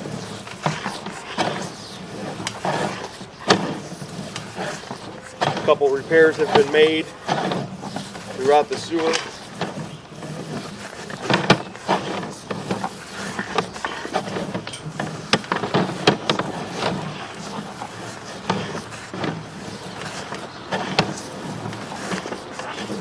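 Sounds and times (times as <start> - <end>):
cable and reel clicks and knocks: 0.0 - 23.0
cable being pulled back: 0.0 - 23.0.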